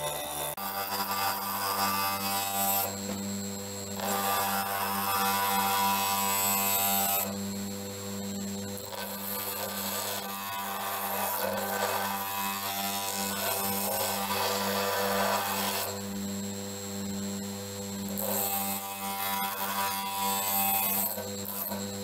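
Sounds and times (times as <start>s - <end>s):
grinder motor humming: 0.0s - 22.0s.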